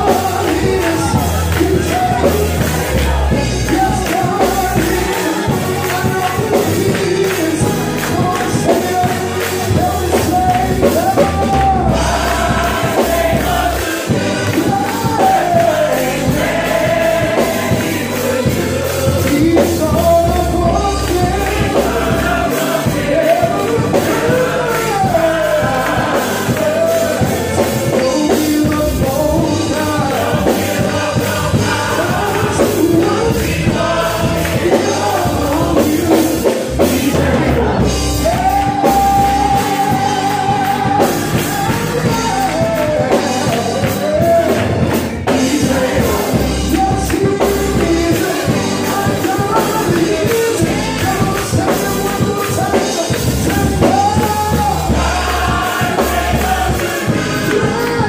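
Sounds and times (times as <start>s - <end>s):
gospel group singing: 0.0s - 58.0s
instrumental accompaniment: 0.0s - 58.0s
steady bass: 0.0s - 58.0s.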